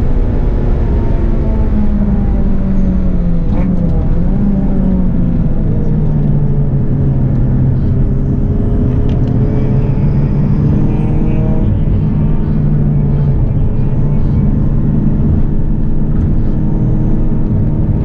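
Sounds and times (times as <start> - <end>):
car engine running at speed: 0.0 - 18.0.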